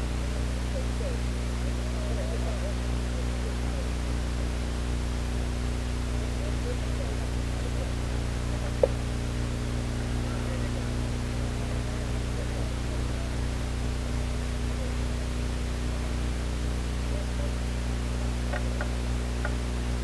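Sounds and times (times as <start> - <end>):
electrical hum with hiss: 0.0 - 20.0.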